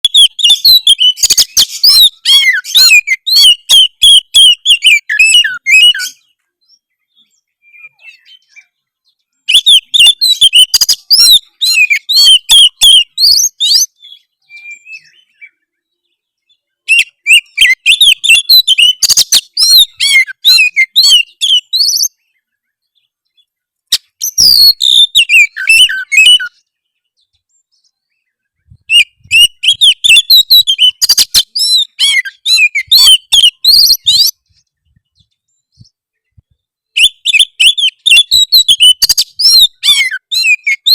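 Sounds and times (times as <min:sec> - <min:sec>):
magpie-robin singing harsh song: 0:00.0 - 0:08.7, 0:09.4 - 0:22.4, 0:23.9 - 0:40.9.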